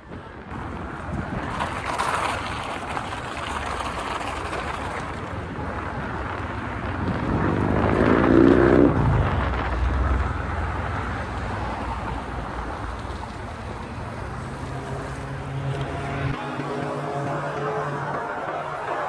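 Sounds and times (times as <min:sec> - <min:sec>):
street traffic: 0:00.0 - 0:19.0
wind on microphone: 0:00.0 - 0:19.0
steady engine hum: 0:00.2 - 0:19.0
vehicle passing close: 0:00.5 - 0:19.0.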